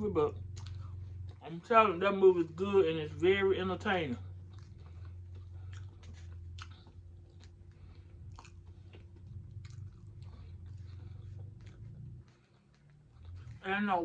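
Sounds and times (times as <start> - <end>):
low electrical hum: 0.0 - 14.0
person chewing food: 0.3 - 14.0.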